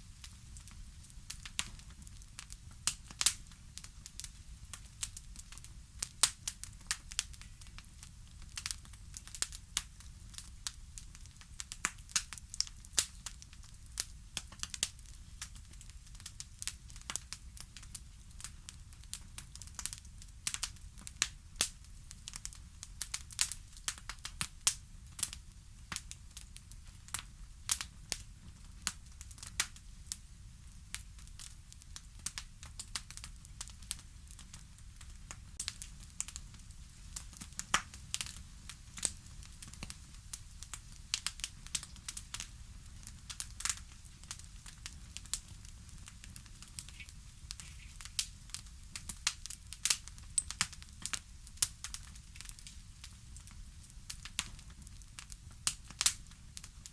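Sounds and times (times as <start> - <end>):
low rumble of fire: 0.0 - 56.9
burning wood popping and snapping: 0.2 - 29.9, 30.9 - 56.9.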